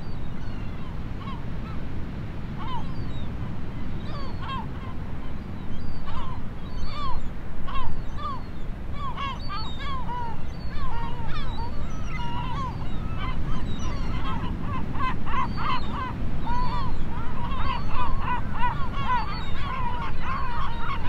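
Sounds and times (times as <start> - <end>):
gulls calling: 2.6 - 21.0.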